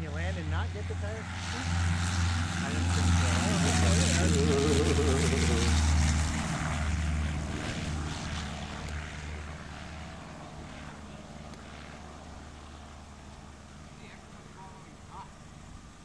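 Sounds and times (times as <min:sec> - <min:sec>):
propeller plane engine at full power: 0:00.0 - 0:16.0.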